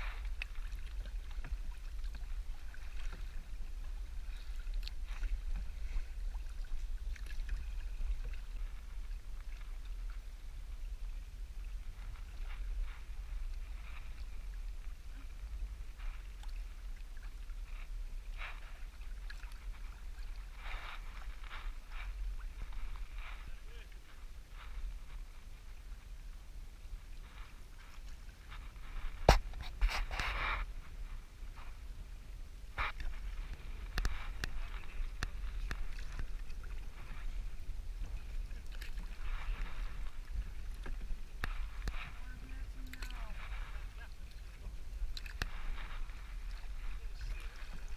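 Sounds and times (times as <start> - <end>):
paddle splashing in water: 0.0 - 47.9
steady low rumble: 0.0 - 47.9
water lapping against hull: 0.0 - 47.9.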